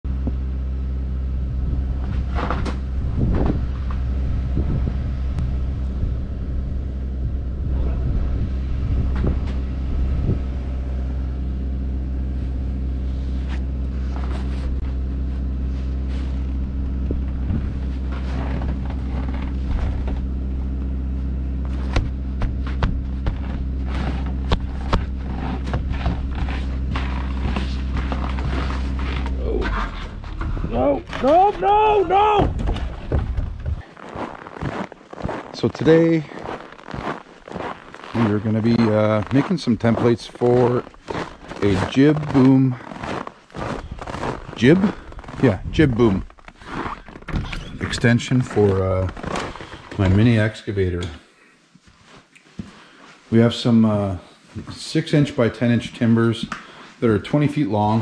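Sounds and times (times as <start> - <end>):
excavator diesel engine running: 0.1 - 46.9.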